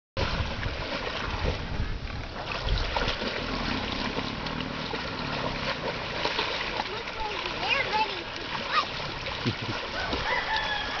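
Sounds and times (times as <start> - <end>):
wind rumbling on microphone: 0.2 - 6.8, 8.4 - 11.0
water sloshing and splashing: 0.2 - 11.0.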